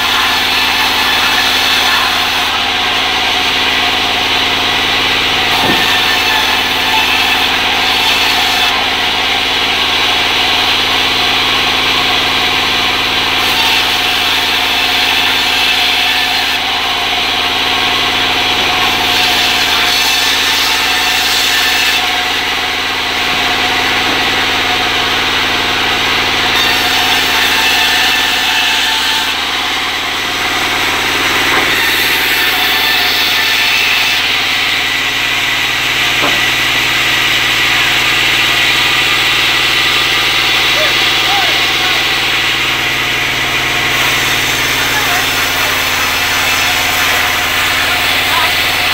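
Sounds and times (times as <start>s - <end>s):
circular saw cutting wood: 0.0s - 48.9s.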